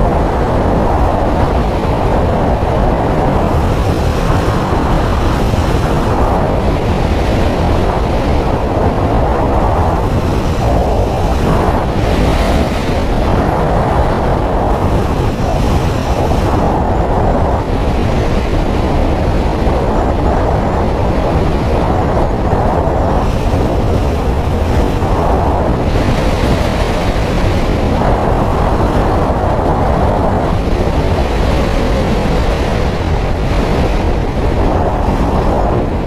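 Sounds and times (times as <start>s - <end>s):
moving road vehicle rumble: 0.0s - 36.0s.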